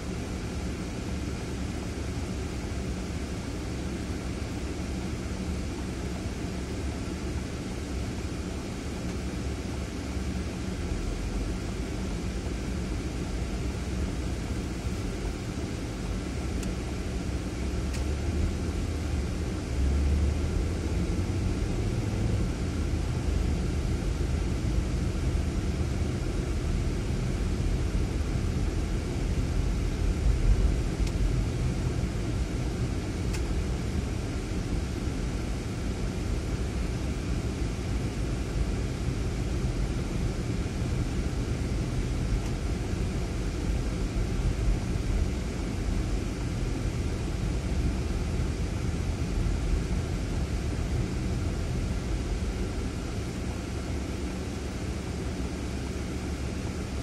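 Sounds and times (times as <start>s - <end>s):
car engine rumble from inside: 0.0s - 57.0s.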